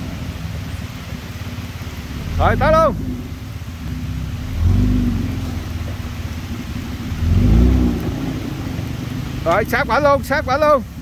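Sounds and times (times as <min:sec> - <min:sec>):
suv engine revving: 0:00.0 - 0:11.0.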